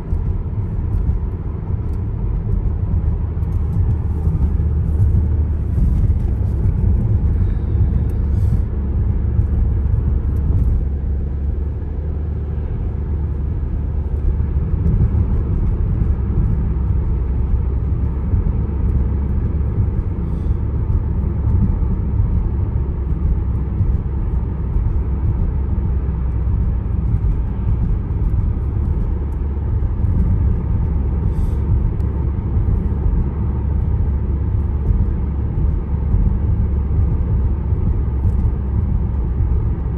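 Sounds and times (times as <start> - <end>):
car engine rumble: 0.0 - 39.9
tyre road noise: 0.0 - 39.9.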